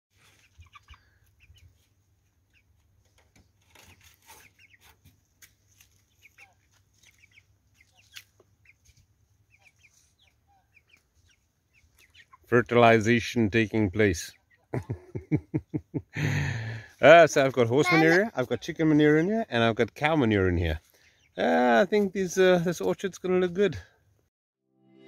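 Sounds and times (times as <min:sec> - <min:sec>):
chickens clucking: 0:00.2 - 0:19.4, 0:20.8 - 0:22.3.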